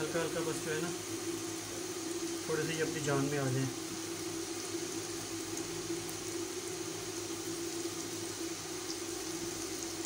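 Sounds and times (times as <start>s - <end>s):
oil sizzling in frying pan: 0.0s - 10.0s.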